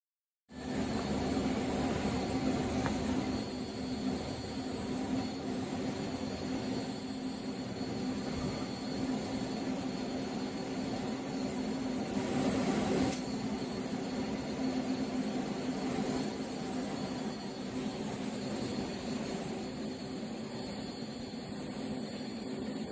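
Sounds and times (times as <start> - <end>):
welding arc hissing and buzzing: 0.6 - 22.9.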